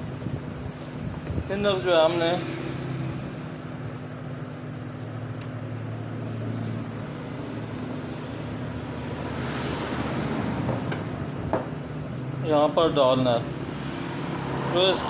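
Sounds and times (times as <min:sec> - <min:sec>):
mechanical drone with low hum: 0:00.0 - 0:15.0.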